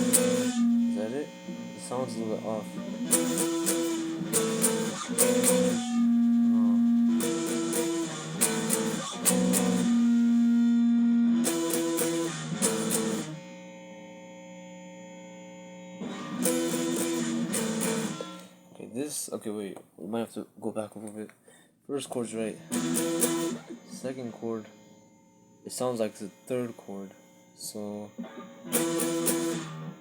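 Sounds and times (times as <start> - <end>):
electric guitar power chords: 0.0 - 14.2, 15.1 - 18.8, 22.4 - 30.0.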